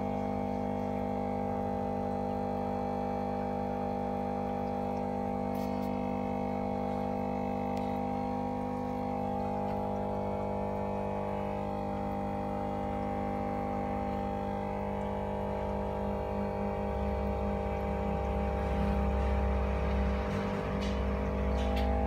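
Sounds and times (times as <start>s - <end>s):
motor humming with deep drone: 0.0s - 22.0s.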